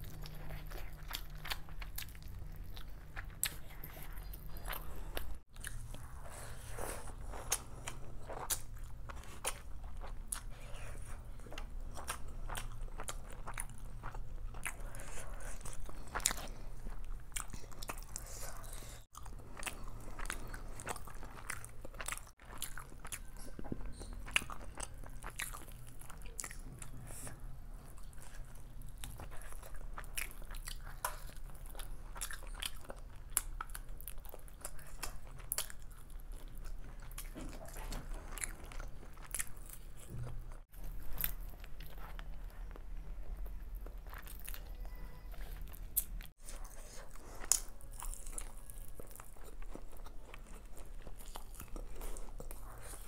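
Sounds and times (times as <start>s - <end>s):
wet chewing and biting: 0.0s - 53.0s.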